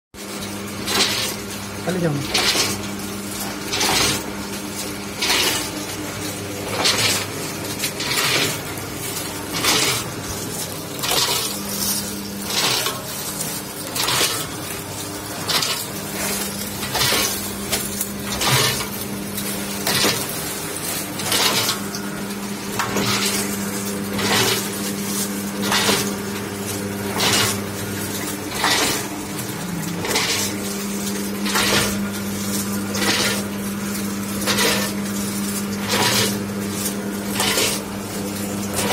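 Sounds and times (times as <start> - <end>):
machine motor hum: 0.2 - 38.9
pellets rattling through machine: 0.2 - 38.9.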